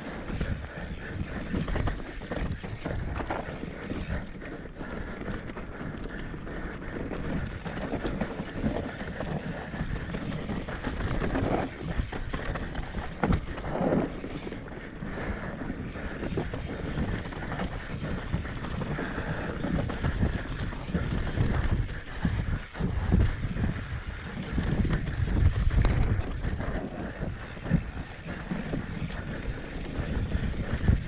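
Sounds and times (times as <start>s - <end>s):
bike knocks and rattles: 0.0s - 14.9s, 15.6s - 26.8s
wind rushing over microphone: 0.0s - 31.0s.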